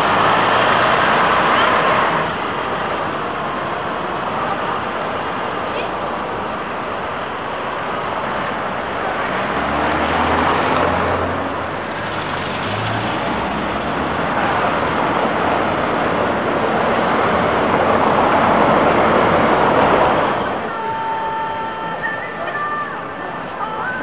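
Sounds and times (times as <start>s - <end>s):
cars driving over cobblestones: 0.0s - 20.9s
bus engine low drone: 0.0s - 24.0s.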